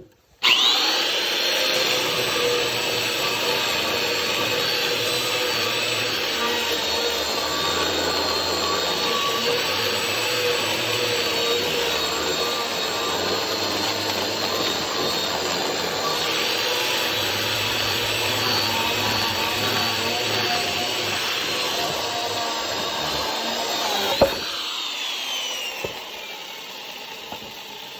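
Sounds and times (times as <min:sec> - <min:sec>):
chainsaw cutting wood: 0:00.0 - 0:27.9.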